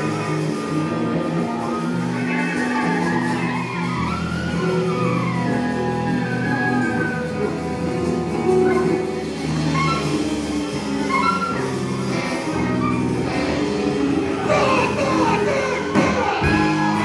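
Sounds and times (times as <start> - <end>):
electric guitars: 0.0 - 17.0
live band playing: 0.0 - 17.0.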